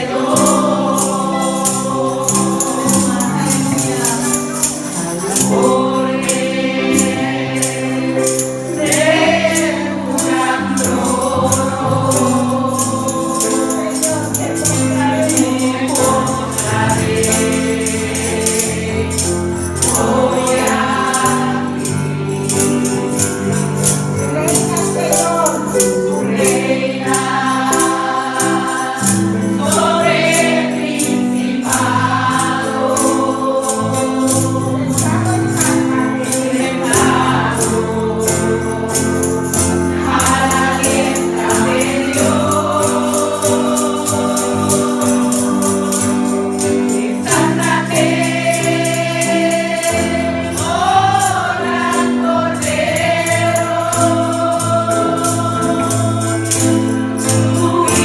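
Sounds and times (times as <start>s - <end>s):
tambourine beat: 0.0s - 58.0s
voices singing held notes: 0.0s - 58.0s.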